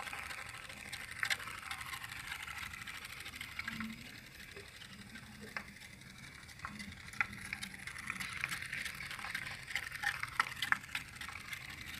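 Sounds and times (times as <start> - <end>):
pop-pop boat steam engine rattle: 0.0 - 11.9.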